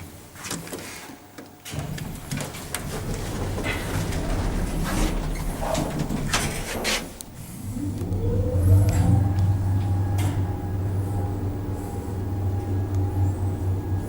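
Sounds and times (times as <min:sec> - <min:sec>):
lift motor clatter: 0:01.7 - 0:14.0
lift motor humming: 0:01.7 - 0:14.0.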